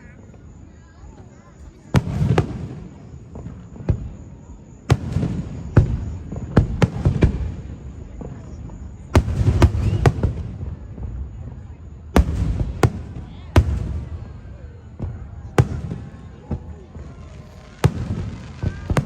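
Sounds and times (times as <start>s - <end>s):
fireworks booming: 1.8s - 19.0s.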